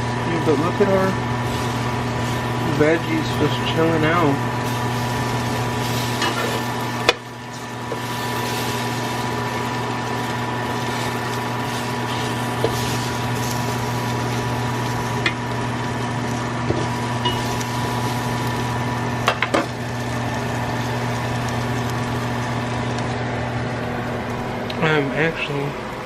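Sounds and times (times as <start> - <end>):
vegetables sizzling in a frying pan: 0.0 - 25.0
steady hum: 0.0 - 26.0.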